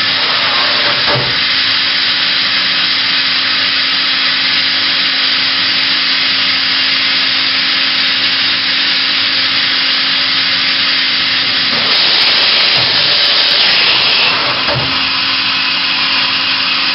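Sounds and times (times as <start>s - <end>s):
machine hum and hiss: 0.0s - 16.9s
tool changer rushing hiss: 0.0s - 16.9s.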